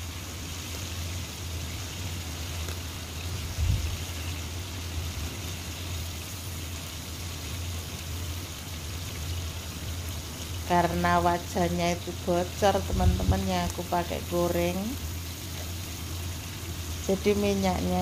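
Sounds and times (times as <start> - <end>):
fish sizzling in oil: 0.0 - 18.0.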